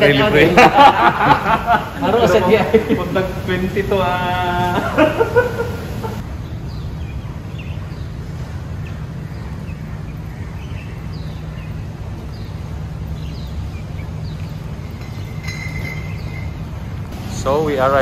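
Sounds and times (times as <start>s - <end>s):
faint small birds chirping: 1.9s - 18.0s.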